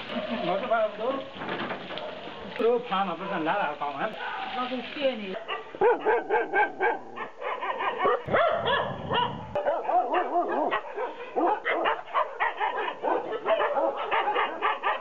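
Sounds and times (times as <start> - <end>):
dogs barking: 0.0 - 4.6, 5.3 - 15.0.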